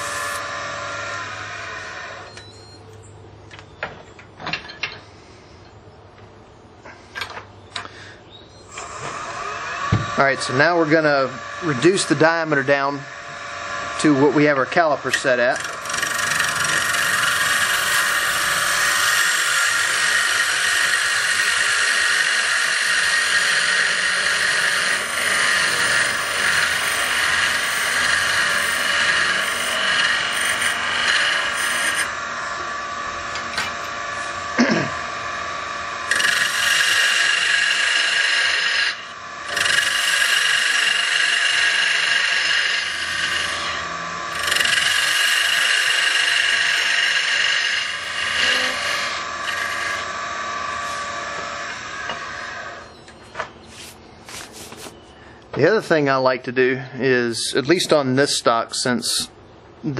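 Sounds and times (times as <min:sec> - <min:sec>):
lathe tool scraping wood: 0:00.0 - 0:02.3, 0:08.7 - 0:55.0.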